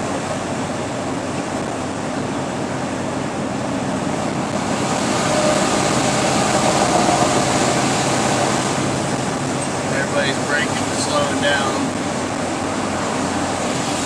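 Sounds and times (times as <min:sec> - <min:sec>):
truck engine drone: 0:00.0 - 0:14.0.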